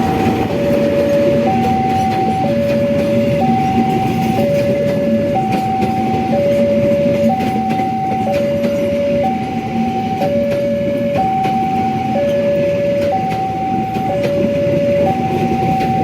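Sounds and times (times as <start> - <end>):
train rumble: 0.0 - 16.0
two-tone crossing alarm: 0.0 - 16.0.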